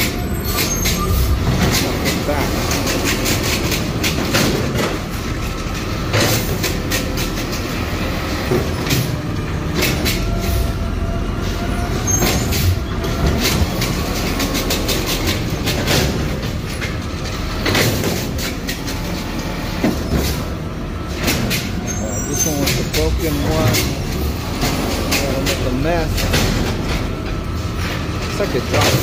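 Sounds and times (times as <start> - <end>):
plastic carts clanking: 0.0 - 10.3, 12.0 - 29.0
garbage truck running: 0.0 - 29.0
hydraulic arm working: 0.0 - 29.0.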